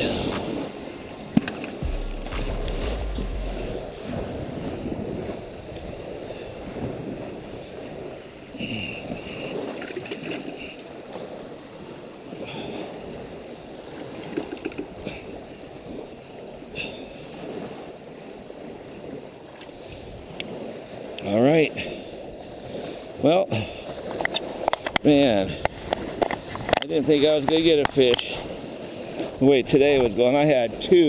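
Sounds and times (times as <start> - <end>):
small waves washing on beach: 0.0 - 31.0.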